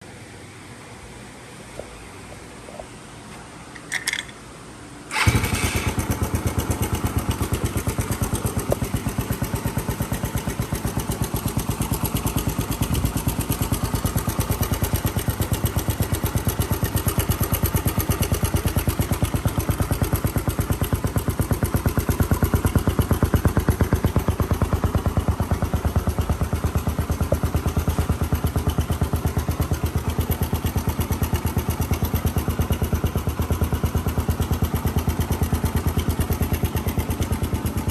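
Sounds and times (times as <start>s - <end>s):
motorcycle engine idling: 5.1s - 37.9s.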